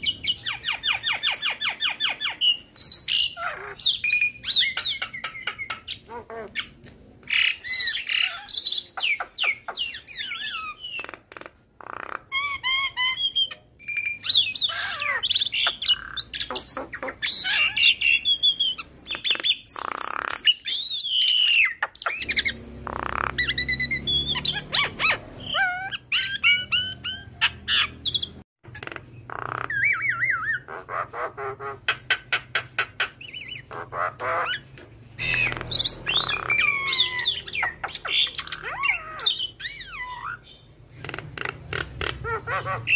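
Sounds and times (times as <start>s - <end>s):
bird singing whistles and squawks: 0.0s - 42.9s.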